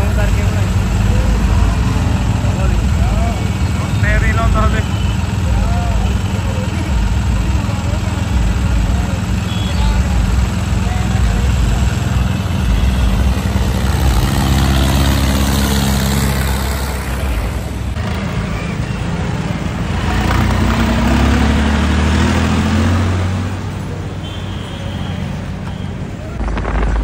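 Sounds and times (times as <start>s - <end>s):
diesel engines in slow traffic: 0.0s - 27.0s.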